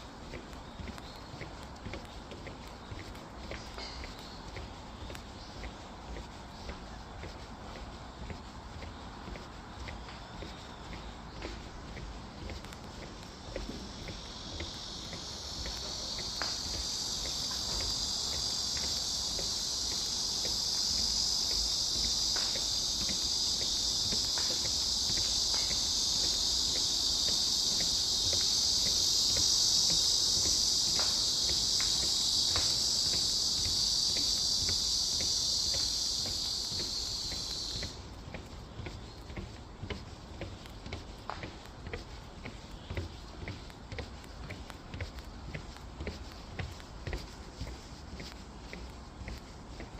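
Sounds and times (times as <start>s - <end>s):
cicadas buzzing: 0.0s - 49.9s
faint footsteps on trail: 0.0s - 49.9s.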